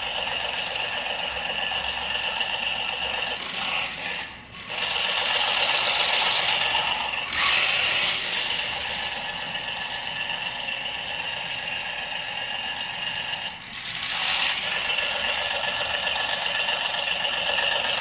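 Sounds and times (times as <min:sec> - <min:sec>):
toy tractor whirring and rattling: 0:00.0 - 0:18.0.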